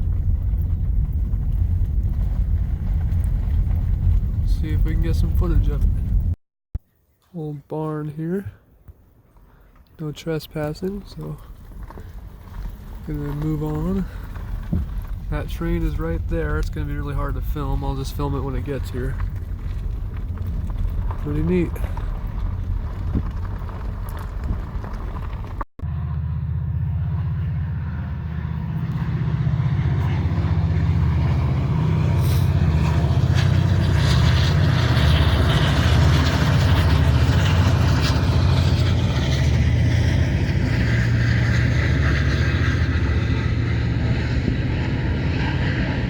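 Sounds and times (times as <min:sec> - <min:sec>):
diesel locomotive engine: 0:00.0 - 0:06.4, 0:09.9 - 0:46.0.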